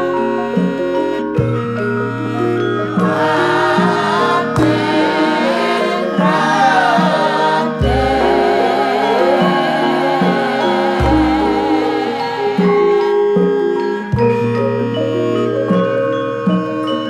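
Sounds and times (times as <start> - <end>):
voices singing: 0.0 - 13.9
gamelan playing: 0.0 - 17.0.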